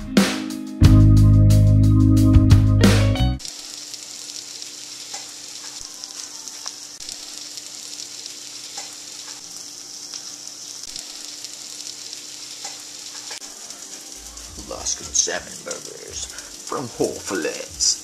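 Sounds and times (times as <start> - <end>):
patty sizzling in frying pan: 3.4 - 18.0.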